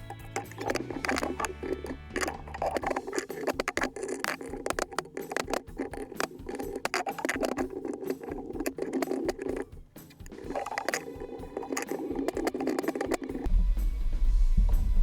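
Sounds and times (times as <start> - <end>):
metallic clicking of hand tools: 0.0 - 13.5.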